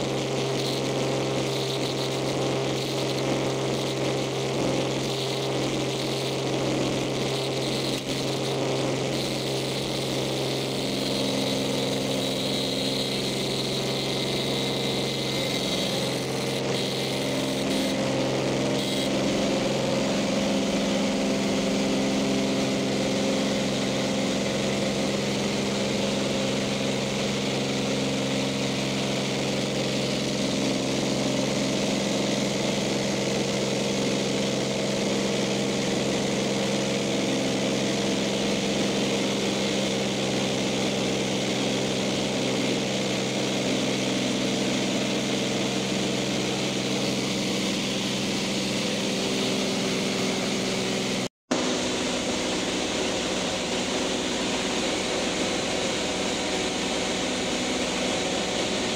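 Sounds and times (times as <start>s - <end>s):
small plane engine droning: 0.0s - 58.9s.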